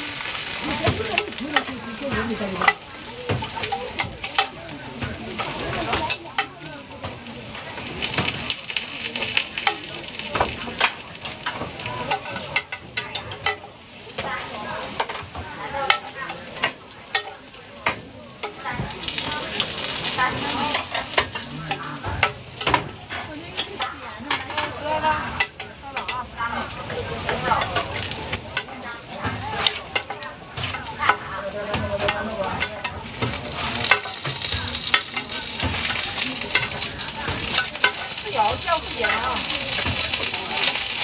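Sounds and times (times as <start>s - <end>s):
metal utensil scraping pan: 0.0s - 6.6s, 9.6s - 41.0s
food sizzling on a griddle: 0.0s - 41.0s.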